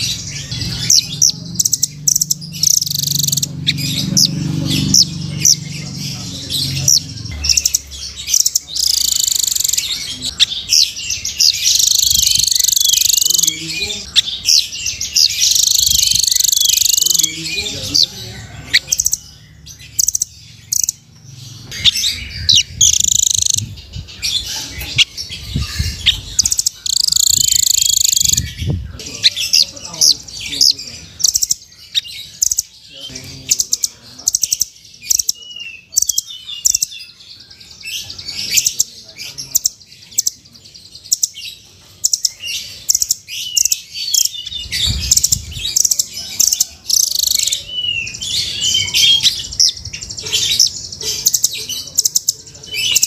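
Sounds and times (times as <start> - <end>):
bird chirping and trilling: 0.0 - 53.0.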